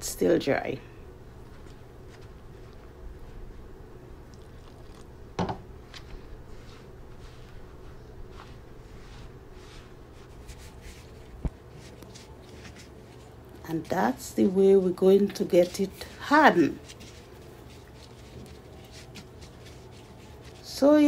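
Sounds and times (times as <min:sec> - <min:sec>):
steady low hum: 0:00.0 - 0:21.0
dough squishing and scraping: 0:01.3 - 0:21.0.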